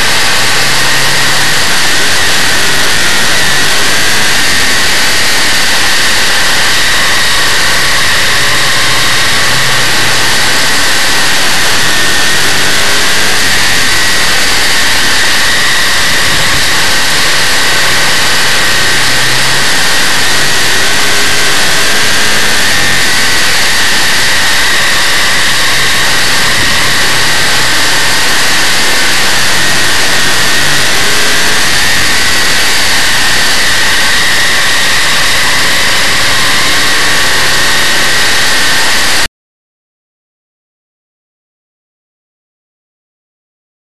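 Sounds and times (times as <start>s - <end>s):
race car engine running hard: 0.0s - 39.3s.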